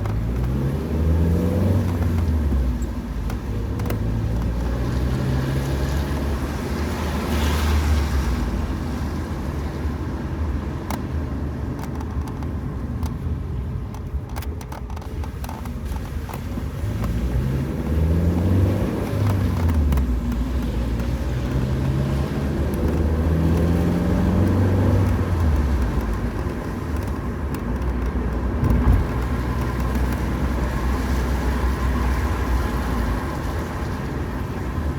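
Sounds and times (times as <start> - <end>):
car engine: 0.0 - 34.9
tyre noise on road: 0.0 - 34.9.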